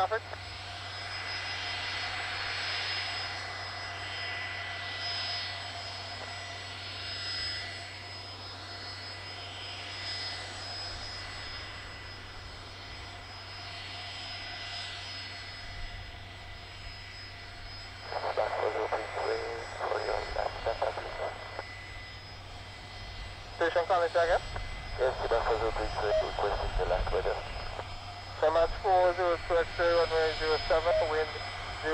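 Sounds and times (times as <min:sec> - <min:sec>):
jet engines whining: 0:00.0 - 0:31.9.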